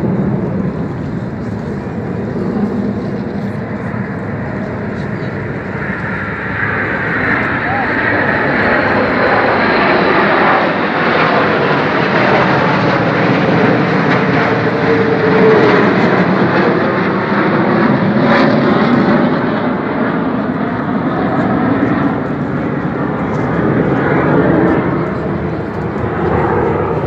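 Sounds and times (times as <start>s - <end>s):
jet engines flying overhead: 0.0s - 27.0s.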